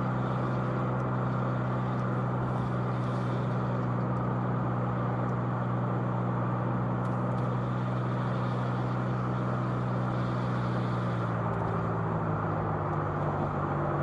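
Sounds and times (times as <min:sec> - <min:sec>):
car engine hum: 0:00.0 - 0:14.0.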